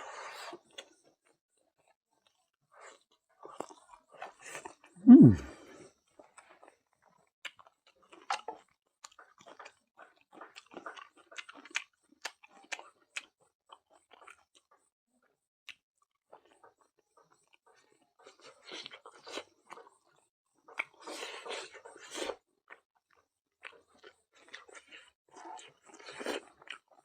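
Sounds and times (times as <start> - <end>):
chewing and biting food: 0.3 - 14.9, 15.6 - 27.0.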